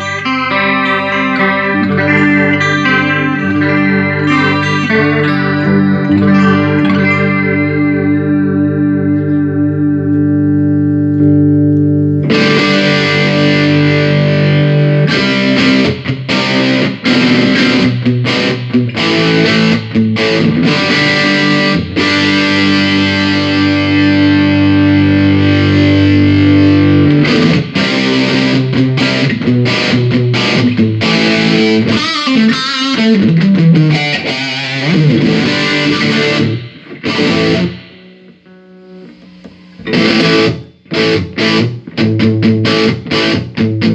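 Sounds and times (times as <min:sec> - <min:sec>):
overdriven electric guitar playing: 0:00.0 - 0:43.9.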